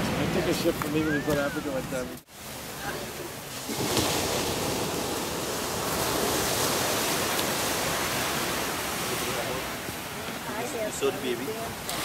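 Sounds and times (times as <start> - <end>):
sea surf washing onto beach: 0.0 - 12.0.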